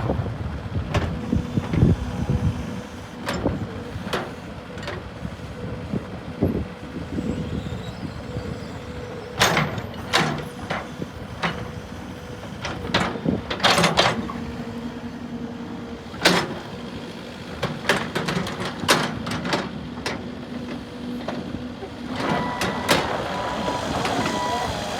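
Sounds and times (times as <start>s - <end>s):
excavator engine humming with whine: 0.0s - 24.9s.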